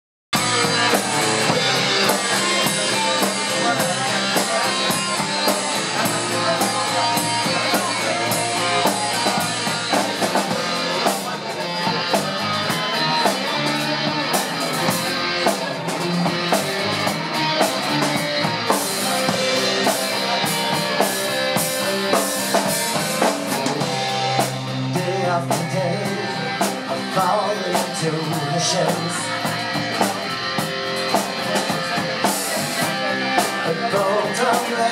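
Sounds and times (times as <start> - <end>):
drum kit: 0.3 - 34.9
electric guitars: 0.3 - 34.9
steady cymbal beat: 0.4 - 34.9.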